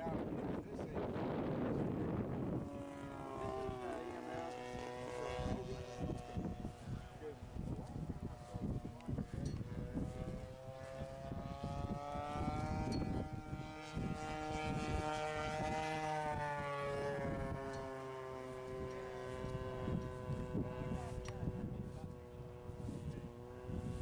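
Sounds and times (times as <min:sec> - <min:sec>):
model plane engine droning: 0:00.0 - 0:24.0.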